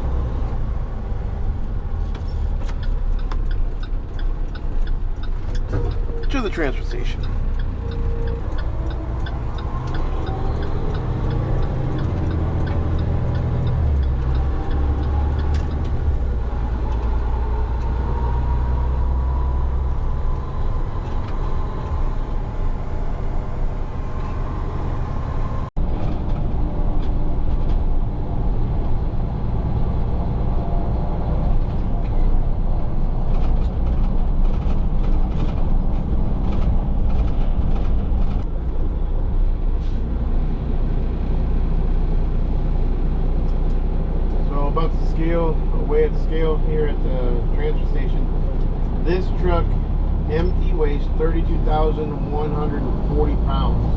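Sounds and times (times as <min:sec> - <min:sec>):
truck engine rumble from cab: 0:00.0 - 0:53.9.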